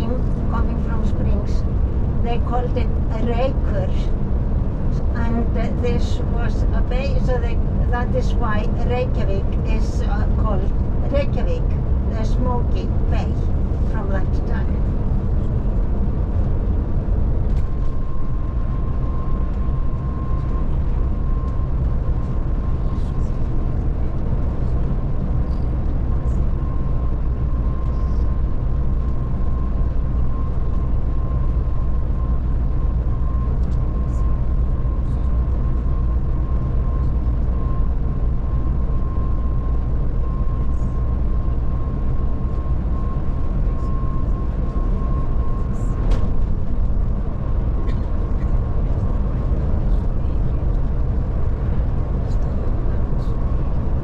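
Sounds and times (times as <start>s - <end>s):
coach engine and road drone: 0.0s - 54.0s
thin constant whine: 0.0s - 54.0s.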